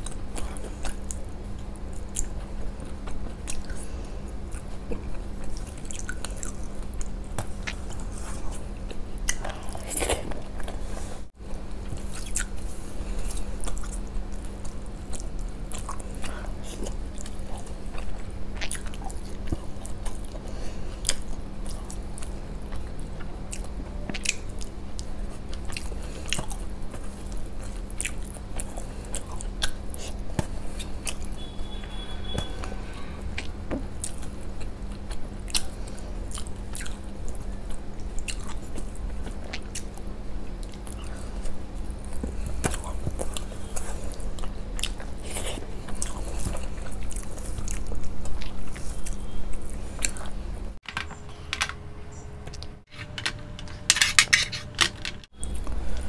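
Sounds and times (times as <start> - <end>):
chewing with wet mouth clicks: 0.0 - 10.8, 11.8 - 12.6, 13.2 - 32.5, 33.4 - 50.4
faint steady hum: 0.0 - 56.0.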